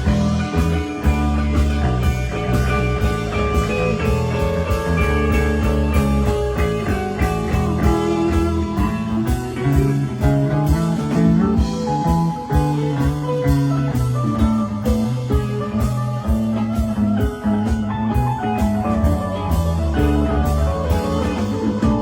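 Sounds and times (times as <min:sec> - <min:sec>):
bass notes: 0:00.0 - 0:22.0
electric guitar lines: 0:00.0 - 0:22.0.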